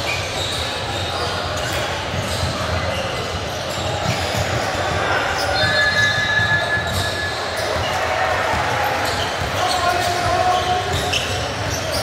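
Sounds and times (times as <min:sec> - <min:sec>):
gym hall din: 0:00.0 - 0:12.0
basketball bouncing on court: 0:01.6 - 0:12.0.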